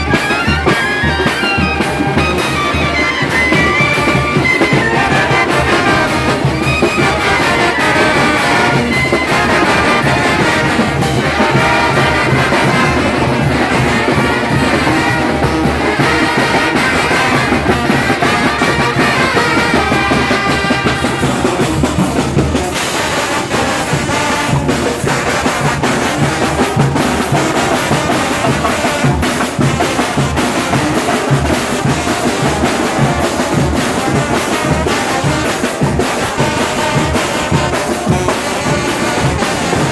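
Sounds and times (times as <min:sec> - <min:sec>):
brass band playing: 0:00.0 - 0:39.9
steady drum beat: 0:00.0 - 0:39.9.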